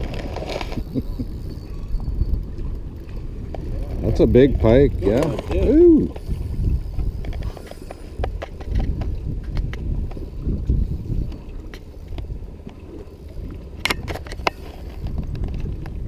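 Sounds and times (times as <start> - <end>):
waves lapping against boat hull: 0.0 - 16.0
wind buffeting microphone: 0.0 - 16.0.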